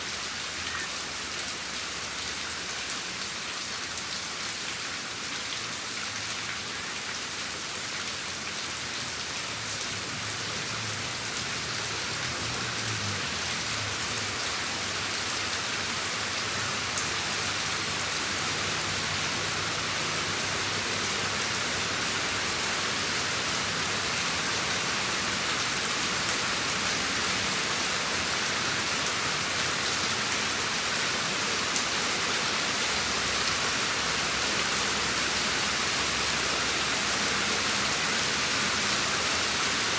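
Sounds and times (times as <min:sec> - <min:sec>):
rain pattering: 0:00.1 - 0:39.9.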